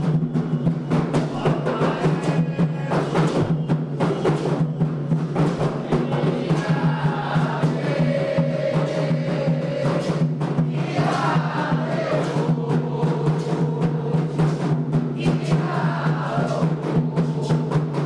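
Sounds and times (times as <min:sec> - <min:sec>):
fast hand drumming: 0:00.0 - 0:18.0
group of voices singing: 0:00.6 - 0:18.0.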